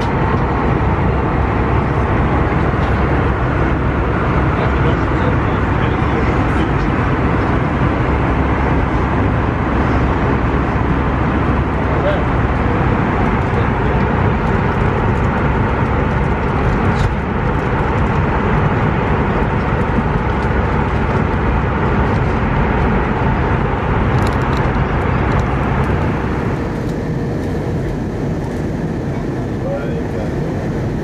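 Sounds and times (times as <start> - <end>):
aircraft cabin engine noise: 0.0 - 31.0.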